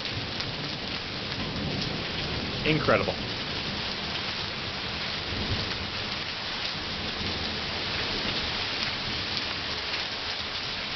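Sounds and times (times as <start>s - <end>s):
heavy rain on outdoor surfaces: 0.0s - 10.9s.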